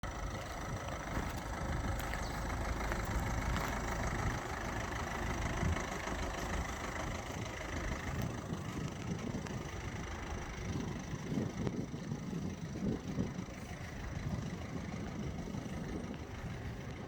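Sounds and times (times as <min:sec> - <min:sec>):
van engine idling: 0:00.0 - 0:17.0.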